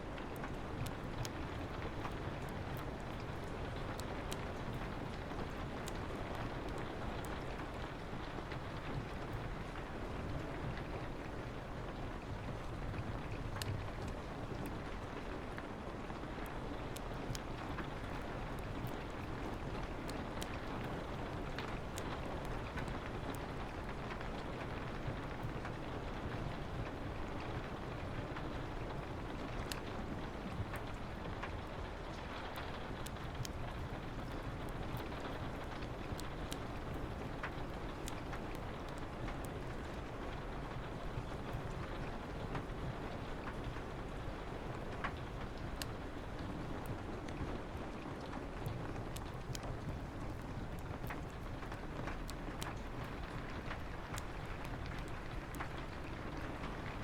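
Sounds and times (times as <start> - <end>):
rain on a window: 0.0 - 57.0
wood fire crackling: 0.0 - 57.0.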